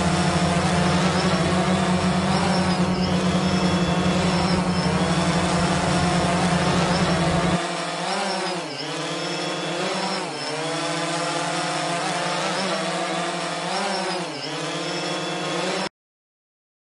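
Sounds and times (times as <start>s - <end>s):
drone propellers whining: 0.0s - 15.9s.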